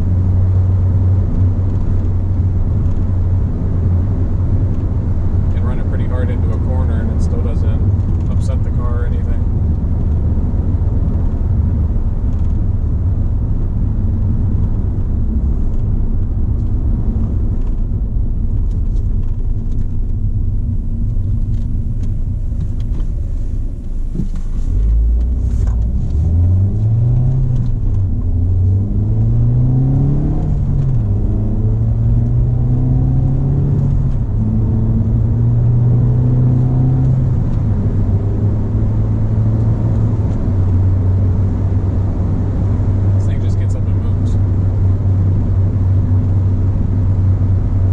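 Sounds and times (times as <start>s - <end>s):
car engine revving: 0.0s - 47.9s
road rumble: 0.0s - 47.9s.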